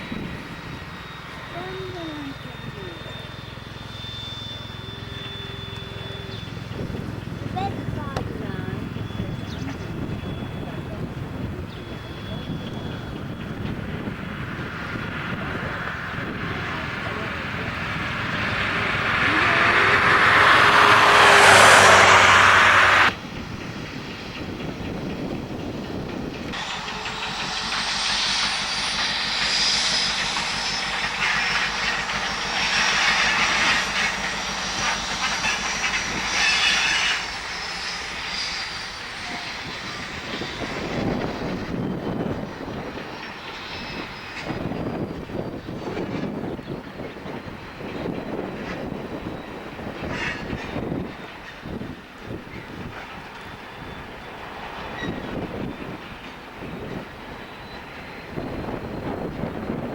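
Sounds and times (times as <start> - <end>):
high-pitched squeal: 0.0 - 23.4, 26.2 - 59.9
locomotive engine running: 0.0 - 59.9.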